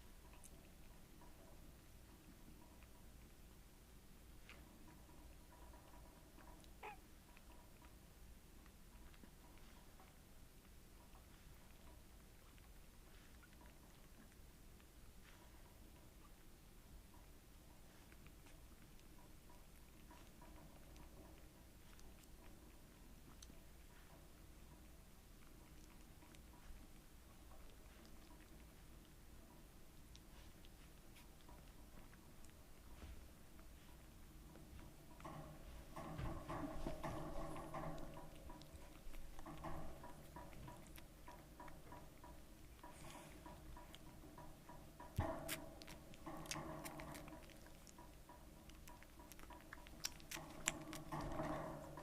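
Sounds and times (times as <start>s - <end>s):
low steady hum: 0.0s - 52.0s
puppies nursing wet clicks: 0.0s - 52.0s.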